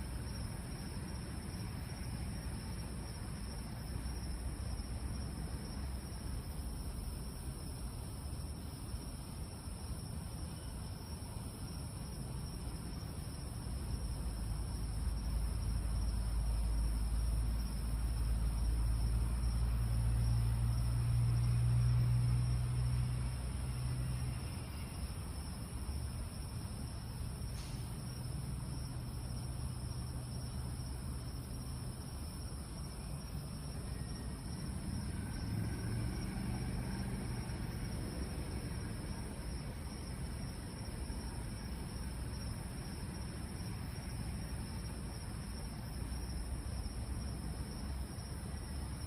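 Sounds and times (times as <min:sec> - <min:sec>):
crickets trilling: 0:00.0 - 0:49.0
insect chorus: 0:00.0 - 0:49.0.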